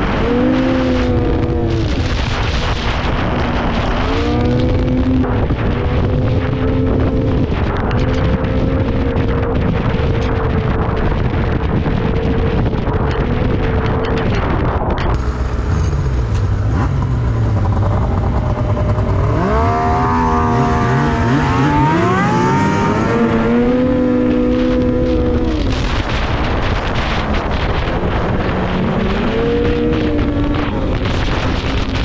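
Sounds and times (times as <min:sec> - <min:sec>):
snowmobile engine revving: 0:00.0 - 0:10.4, 0:15.2 - 0:32.0
wind noise on microphone: 0:00.0 - 0:32.0.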